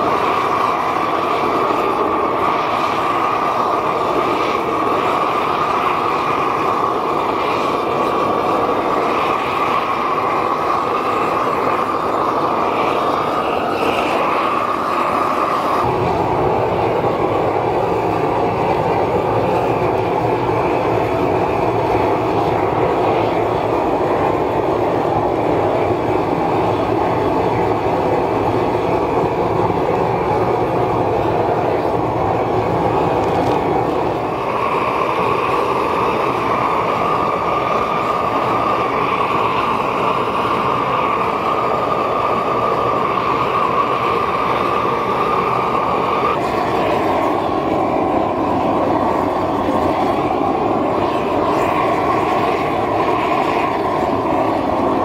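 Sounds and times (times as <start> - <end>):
propane torch rushing: 0.0 - 55.0.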